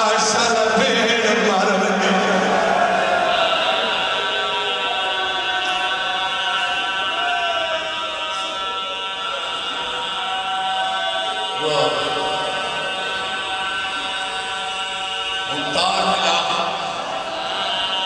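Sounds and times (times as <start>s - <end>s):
man chanting through loudspeakers: 0.0s - 18.0s.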